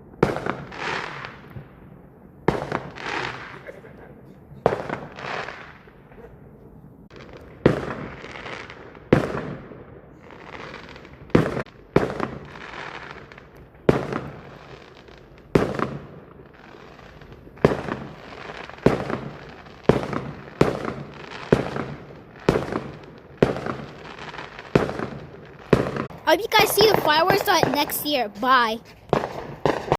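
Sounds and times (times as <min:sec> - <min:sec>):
fireworks bangs: 0:00.0 - 0:01.8, 0:02.4 - 0:03.8, 0:04.6 - 0:06.3, 0:07.1 - 0:29.9.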